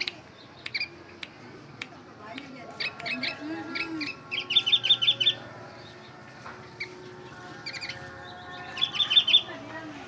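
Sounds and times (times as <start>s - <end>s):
bird chirping: 0.0s - 1.3s, 2.7s - 9.7s.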